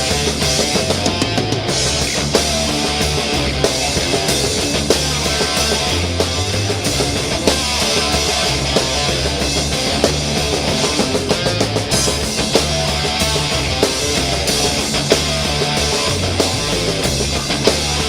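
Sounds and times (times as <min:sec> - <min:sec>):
heavy rock music: 0:00.0 - 0:18.0.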